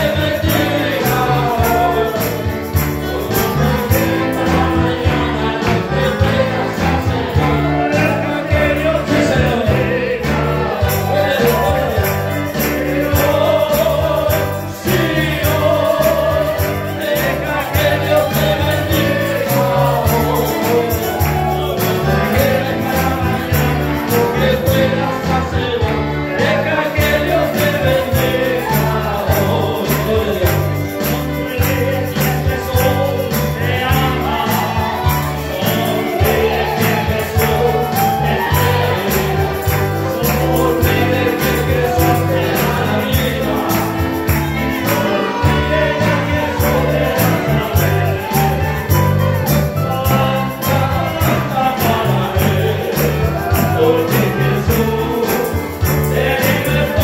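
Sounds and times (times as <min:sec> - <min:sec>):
band with bass and drums: 0:00.0 - 0:57.0
group of voices singing: 0:00.0 - 0:57.0.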